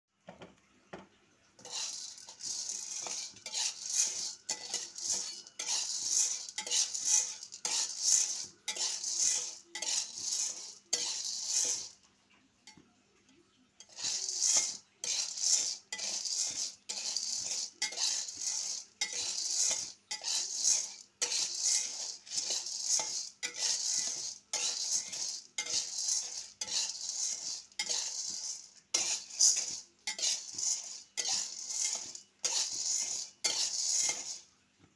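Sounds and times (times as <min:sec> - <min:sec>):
coffee beans rattling in pan: 0:01.6 - 0:12.1, 0:13.8 - 0:34.5
spatula scraping metal wok: 0:01.6 - 0:12.1, 0:13.8 - 0:34.5.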